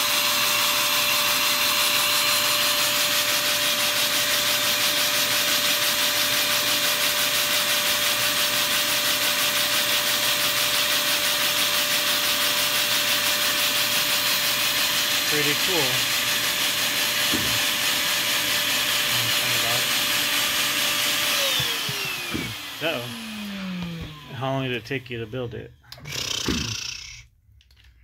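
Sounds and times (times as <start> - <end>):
shop vacuum whining: 0.0 - 27.2.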